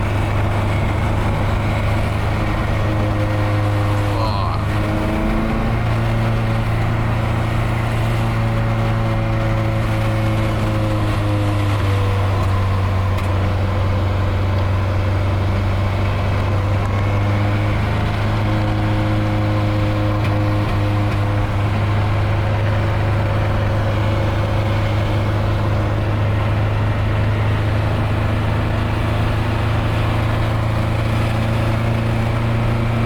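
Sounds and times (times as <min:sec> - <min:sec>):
car engine and exhaust droning: 0:00.0 - 0:33.0.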